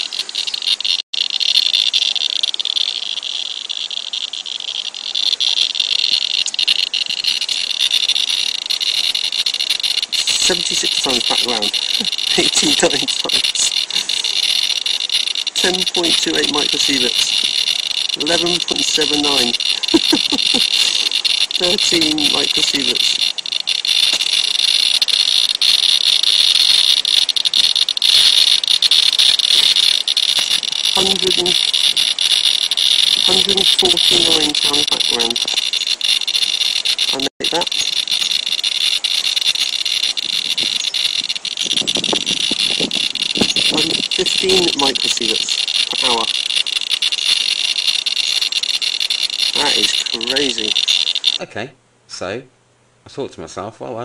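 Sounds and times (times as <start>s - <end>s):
radiation meter clicking: 0.0s - 51.4s.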